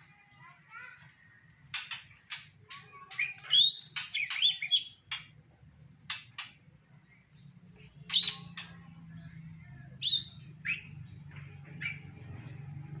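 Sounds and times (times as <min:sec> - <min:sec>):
bird singing with clicks and whistles: 0:00.7 - 0:06.6, 0:08.0 - 0:12.9.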